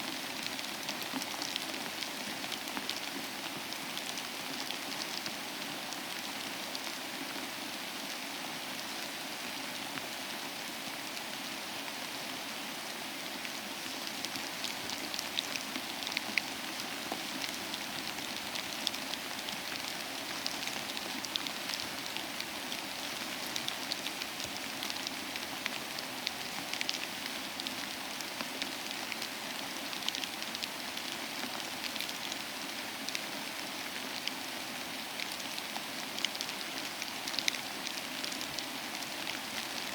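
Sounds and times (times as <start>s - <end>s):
rain drops ticking on a surface: 0.0s - 39.9s.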